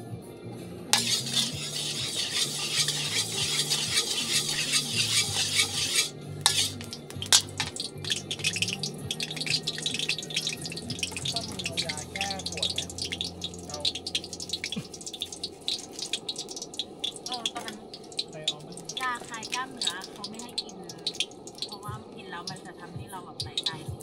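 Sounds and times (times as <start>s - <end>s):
spatula scraping a pan: 1.0s - 21.8s
vegetables sizzling in hot oil: 1.0s - 22.6s, 23.4s - 24.0s.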